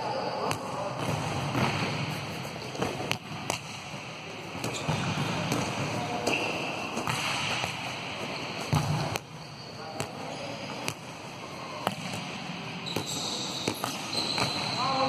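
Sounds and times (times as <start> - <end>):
ball hitting court: 0.4 - 9.3, 9.9 - 11.2, 11.8 - 14.9.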